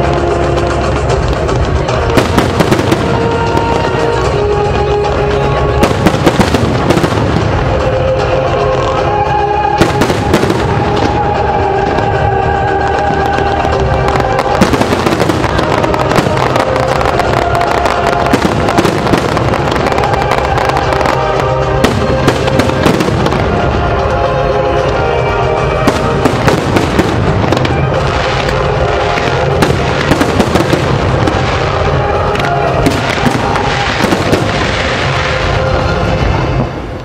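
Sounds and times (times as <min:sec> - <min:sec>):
fireworks bangs and crackling: 0:00.0 - 0:37.0
loud show music: 0:00.0 - 0:37.0.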